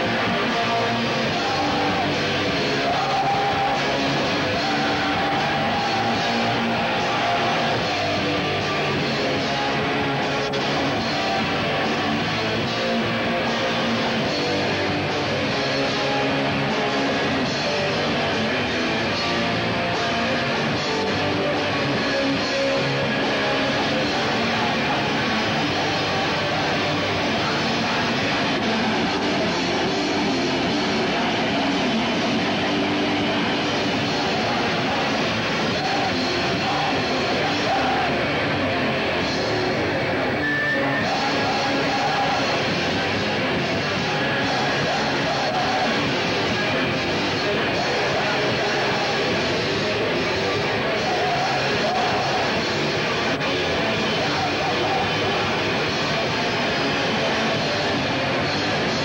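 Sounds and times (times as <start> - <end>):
drum kit: 0.0 - 59.0
electric guitar: 0.0 - 59.0
live rock band playing: 0.0 - 59.0.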